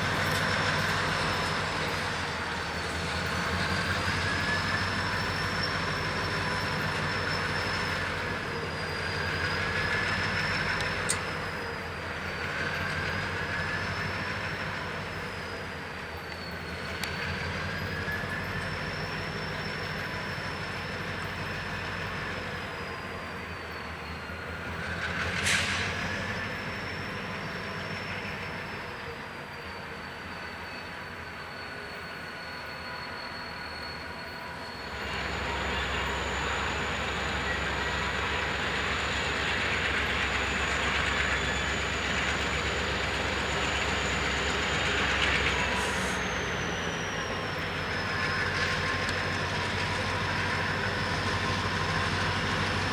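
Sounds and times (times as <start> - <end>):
low rumble of freight cars: 0.0 - 52.9
wheel flange squeal: 0.0 - 52.9.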